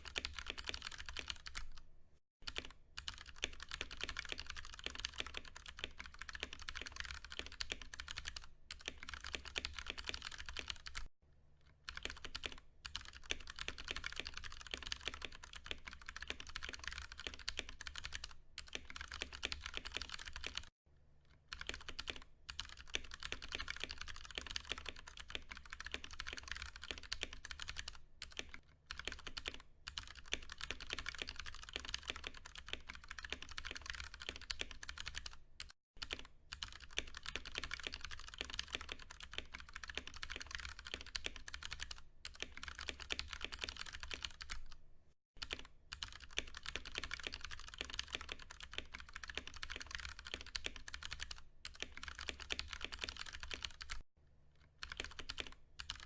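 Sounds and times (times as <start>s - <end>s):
mechanical keyboard typing: 0.0s - 1.8s, 2.4s - 11.1s, 11.9s - 20.7s, 21.5s - 44.8s, 45.4s - 54.0s, 54.8s - 56.0s.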